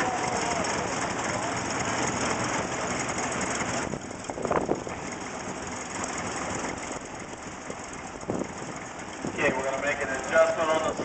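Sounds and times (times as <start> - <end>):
steam engine clattering: 0.0 - 11.0.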